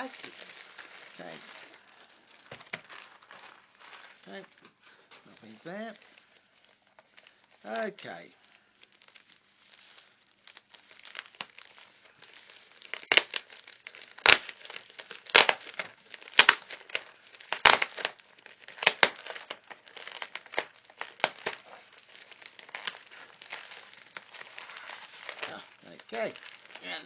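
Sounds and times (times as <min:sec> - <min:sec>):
plastic satchel crinkling: 0:00.0 - 0:27.0.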